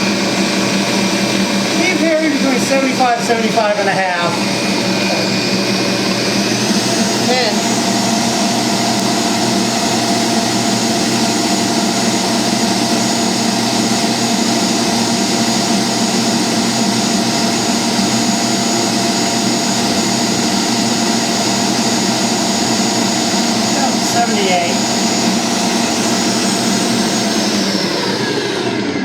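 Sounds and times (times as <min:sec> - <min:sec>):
stand mixer running: 0:00.0 - 0:29.0.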